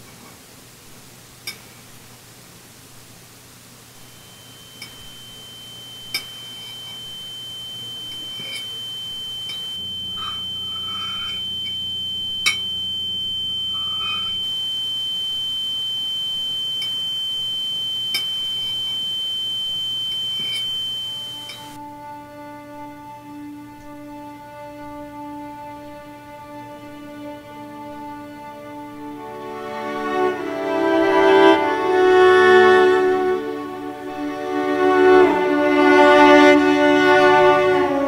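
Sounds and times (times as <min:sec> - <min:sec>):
high-pitched ringing tone: 0:04.0 - 0:38.0.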